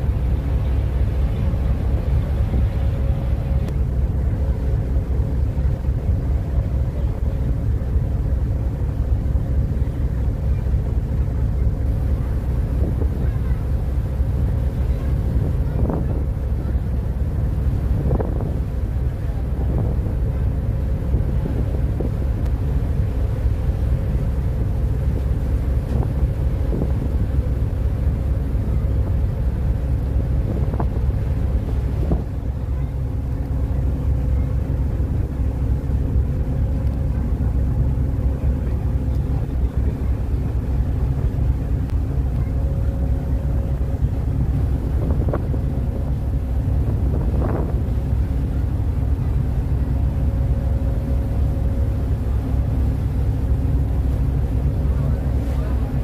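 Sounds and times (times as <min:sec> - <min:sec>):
faint hum: 0:00.0 - 0:56.0
low engine rumble: 0:00.0 - 0:56.0
wind buffeting microphone: 0:00.0 - 0:56.0.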